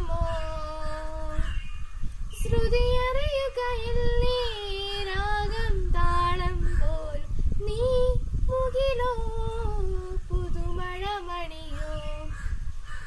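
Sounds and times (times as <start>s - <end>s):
girl singing solo: 0.0s - 1.7s, 2.3s - 12.3s.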